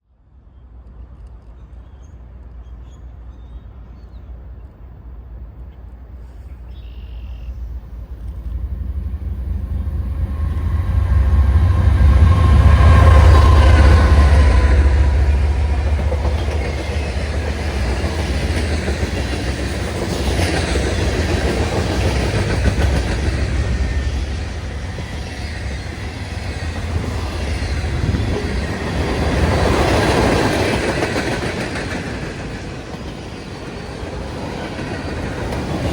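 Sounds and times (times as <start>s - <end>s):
locomotive rumble: 3.7s - 35.9s
freight cars rolling past: 4.4s - 35.9s
wheels clacking over rail joints: 6.9s - 35.9s.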